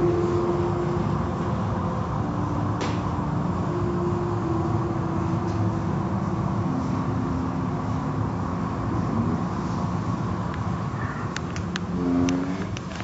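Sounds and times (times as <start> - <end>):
motor hum shifting pitch: 0.0 - 10.9
car wash machinery and water spray: 0.0 - 13.0.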